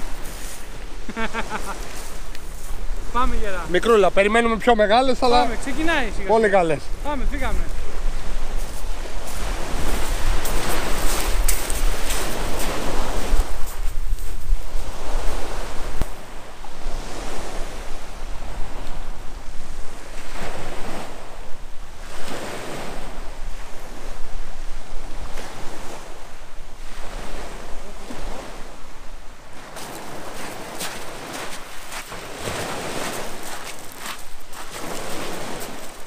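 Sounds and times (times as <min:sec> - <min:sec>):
sea waves washing ashore: 0:00.0 - 0:36.0
wind buffeting microphone: 0:00.0 - 0:36.0.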